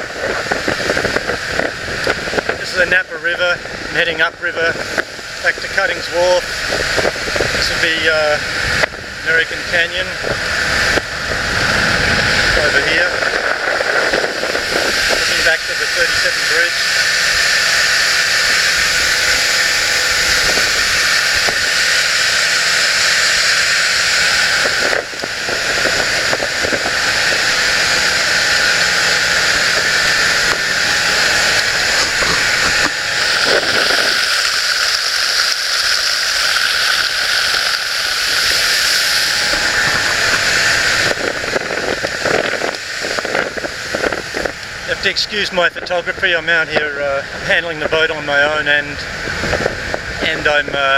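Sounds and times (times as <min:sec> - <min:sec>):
boat engine droning: 0:00.0 - 0:50.9
rush of wind and water: 0:00.0 - 0:50.9.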